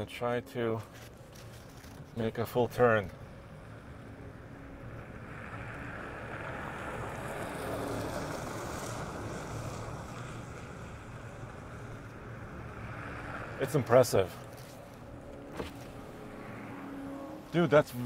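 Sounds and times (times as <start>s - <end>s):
truck tyres rolling on pavement: 1.0s - 17.2s.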